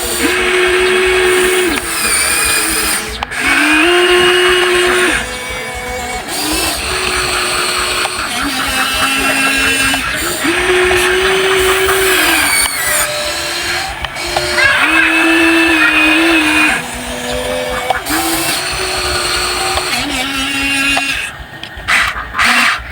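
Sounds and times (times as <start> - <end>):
toy excavator motors whining: 0.0 - 22.9.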